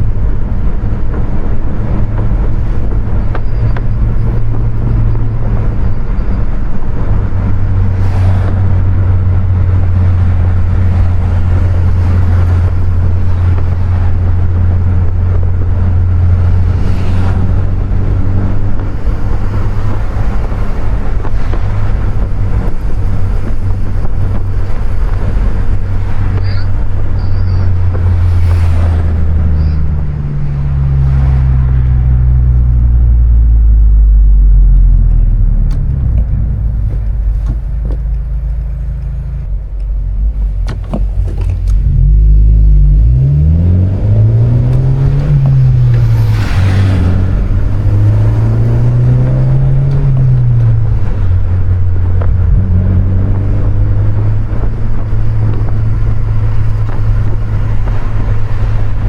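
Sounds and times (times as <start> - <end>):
car engine running: 0.0 - 59.0
tyre and road noise: 0.0 - 59.0.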